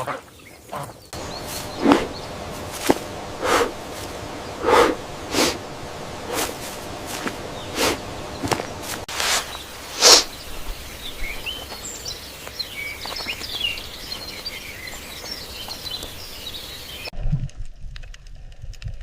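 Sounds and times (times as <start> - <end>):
small birds chirping: 0.0 - 17.1
outdoor background noise: 0.0 - 19.0.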